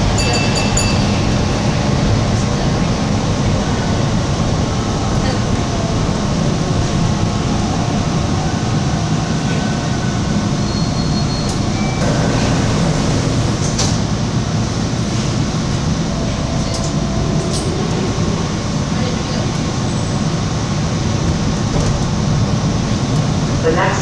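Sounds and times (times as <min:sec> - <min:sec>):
train wheels on rail: 0:00.0 - 0:23.7.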